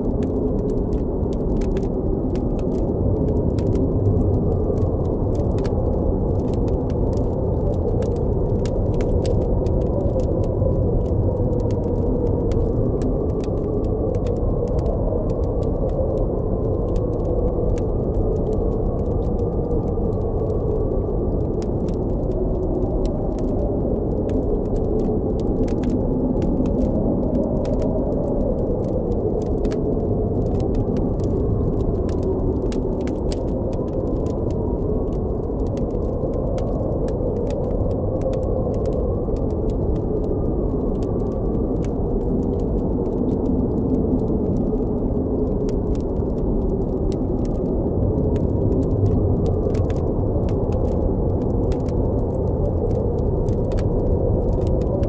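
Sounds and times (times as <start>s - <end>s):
crackling campfire: 0.0s - 55.0s
howling blizzard wind: 0.0s - 55.0s.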